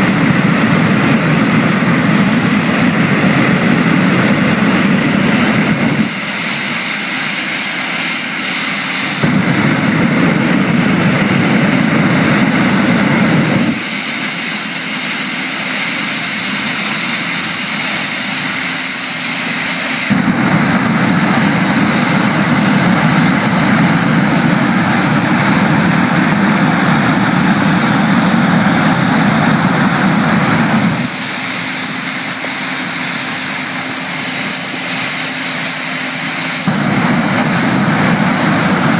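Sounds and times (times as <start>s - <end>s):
jet engine rushing blast: 0.0s - 38.9s
jet turbine whine: 0.0s - 38.9s.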